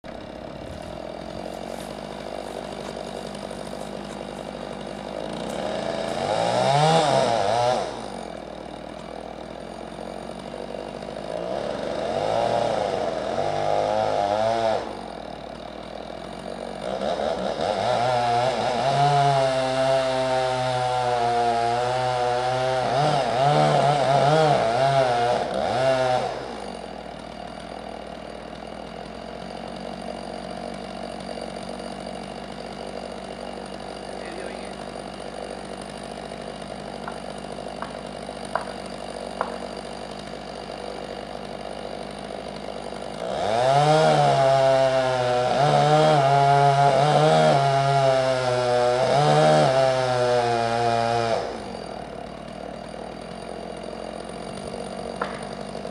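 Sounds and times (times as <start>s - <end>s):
chainsaw revving and idling: 0.0s - 55.9s.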